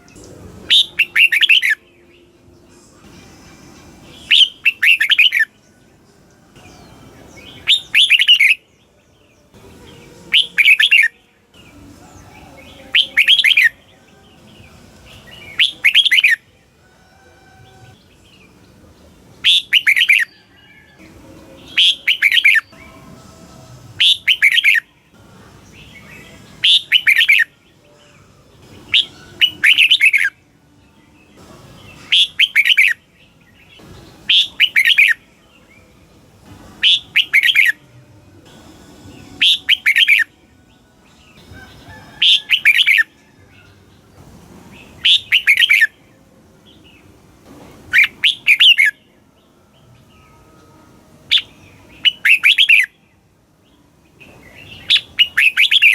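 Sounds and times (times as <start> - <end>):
bird singing warbling phrases: 0.0 - 2.8, 4.0 - 5.8, 6.5 - 16.7, 17.8 - 20.8, 21.4 - 23.1, 24.0 - 30.4, 31.0 - 35.9, 36.8 - 37.9, 39.1 - 44.2, 44.8 - 47.1, 47.9 - 50.5, 51.3 - 55.9.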